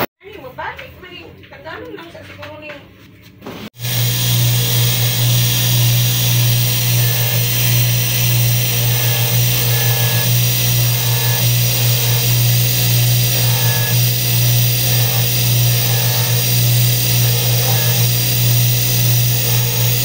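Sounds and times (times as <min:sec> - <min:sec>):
polishing motor humming: 0:03.8 - 0:20.0.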